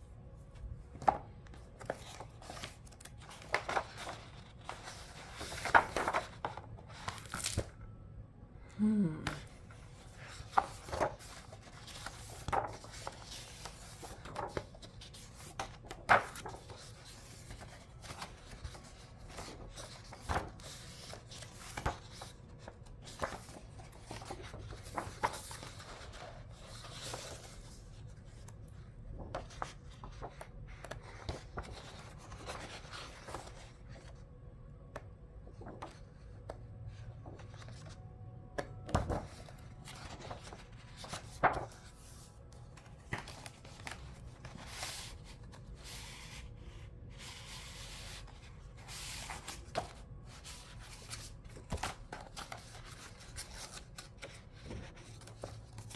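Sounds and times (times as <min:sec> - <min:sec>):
book pages being turned: 0:00.4 - 0:07.8, 0:09.2 - 0:34.2, 0:34.9 - 0:55.9.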